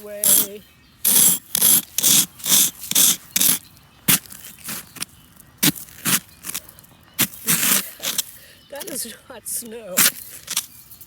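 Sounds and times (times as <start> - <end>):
trowel scraping ice: 0.0 - 9.0, 9.9 - 11.0.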